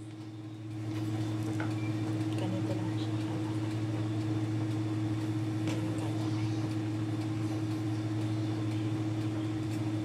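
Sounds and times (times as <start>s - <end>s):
appliance motor humming: 0.0s - 10.0s.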